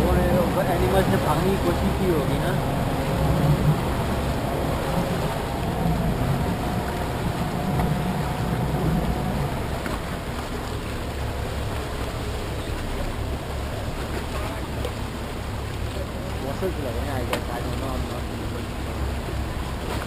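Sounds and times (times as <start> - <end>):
boat engine running: 0.0 - 20.0
water wash: 0.0 - 20.0.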